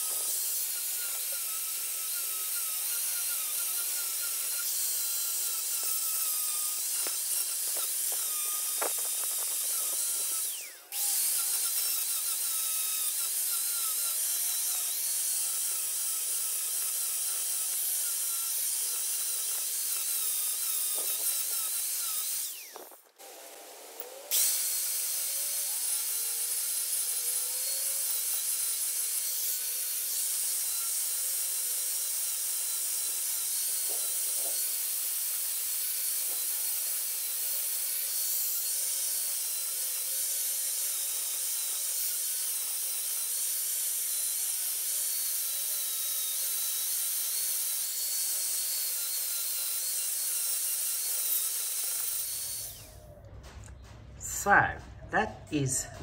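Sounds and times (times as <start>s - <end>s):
angle grinder grinding metal: 0.0s - 56.0s.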